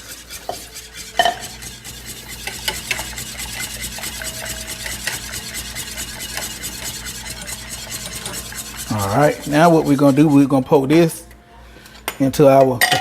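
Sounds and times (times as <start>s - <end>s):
utensil scraping pot: 0.0s - 12.1s.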